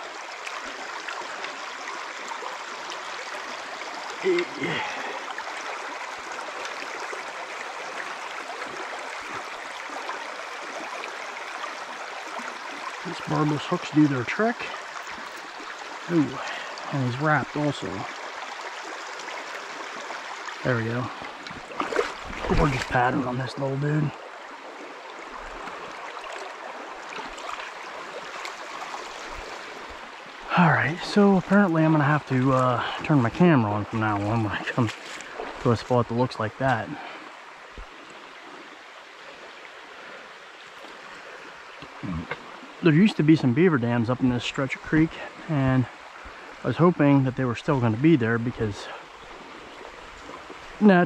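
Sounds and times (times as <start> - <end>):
stream water flowing over rocks: 0.0 - 51.0.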